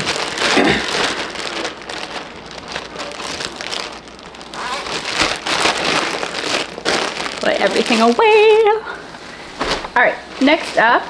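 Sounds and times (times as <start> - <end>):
plastic rustling and crackling: 0.0 - 11.0.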